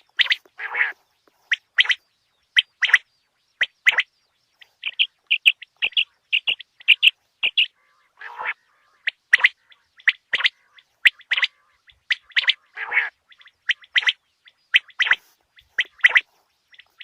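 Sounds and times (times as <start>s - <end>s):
quail calling sharp notes: 0.0s - 17.0s.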